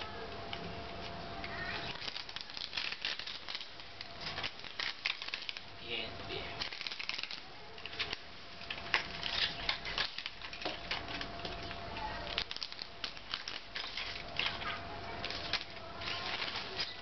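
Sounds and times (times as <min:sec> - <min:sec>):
paper crumpling by hand: 0:01.5 - 0:05.7, 0:06.4 - 0:17.0
tape peeling off metal: 0:01.5 - 0:05.7, 0:06.6 - 0:17.0.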